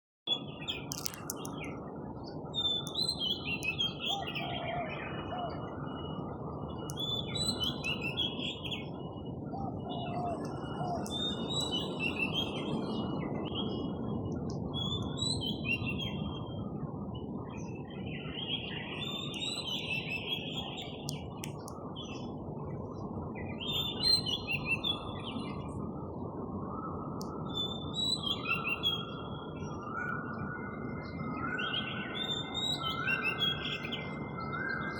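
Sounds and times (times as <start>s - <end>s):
songbirds chirping: 0.3s - 34.9s.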